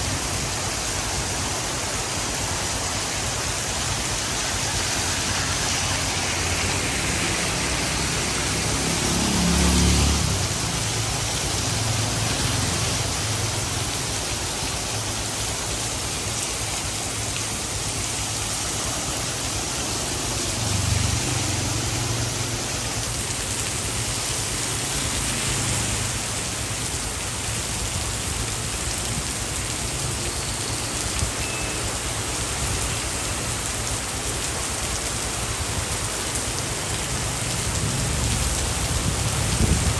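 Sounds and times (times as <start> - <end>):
steady rain falling: 0.0 - 39.9
vehicle passing on wet road: 0.0 - 39.9.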